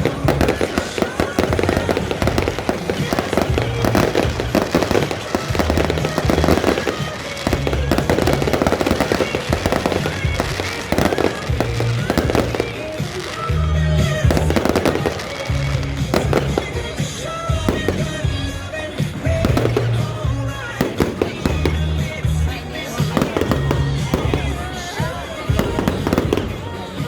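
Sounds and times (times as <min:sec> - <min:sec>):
fireworks bangs and crackles: 0:00.0 - 0:27.0
music with heavy bass: 0:00.0 - 0:27.0.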